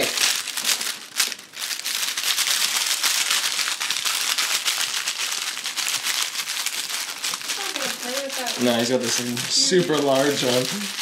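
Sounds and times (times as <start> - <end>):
plastic rustling and crackling: 0.0 - 11.0.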